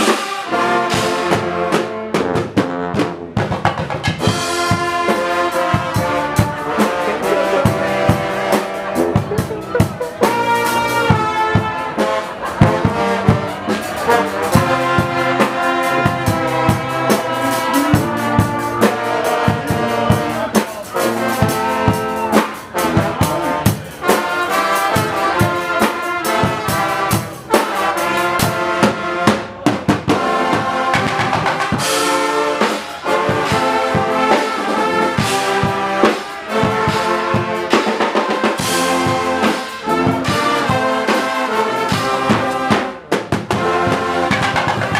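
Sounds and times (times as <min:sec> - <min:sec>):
bass drum and cymbals: 0:00.0 - 0:44.9
brass band playing: 0:00.0 - 0:44.9.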